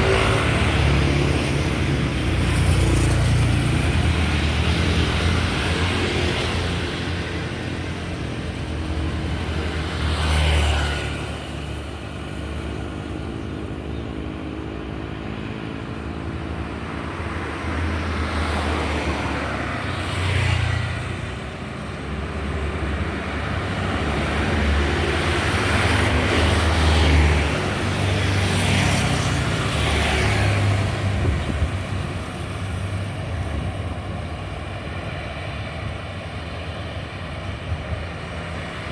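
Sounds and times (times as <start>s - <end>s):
vehicles passing close by: 0.0s - 38.9s.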